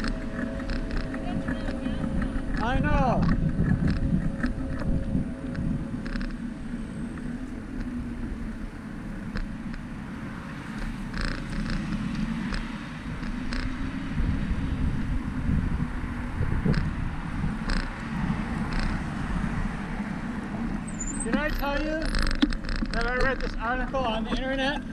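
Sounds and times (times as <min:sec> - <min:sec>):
wind and road noise rumble: 0:00.0 - 0:24.9.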